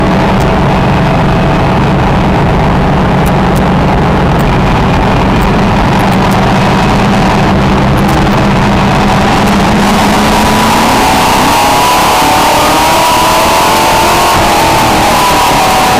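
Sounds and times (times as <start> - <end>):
truck engine at steady pitch: 0.0 - 15.9
wind and road noise: 0.0 - 15.9.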